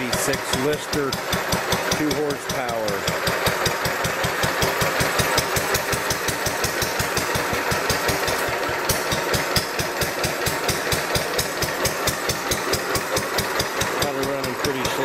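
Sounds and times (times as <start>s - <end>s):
stationary engine running: 0.0s - 15.0s.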